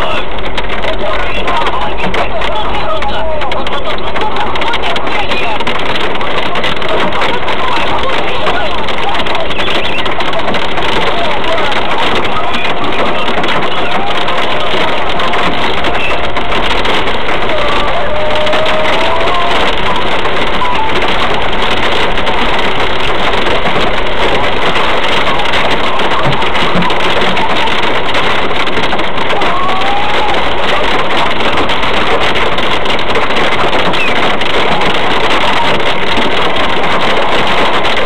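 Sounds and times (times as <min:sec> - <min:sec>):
hail and rain on car roof: 0:00.0 - 0:38.0.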